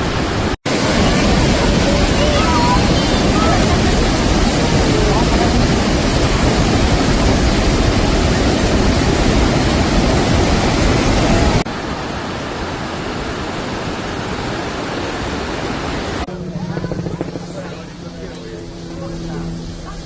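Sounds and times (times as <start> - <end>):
waterfall rushing: 0.0 - 16.5.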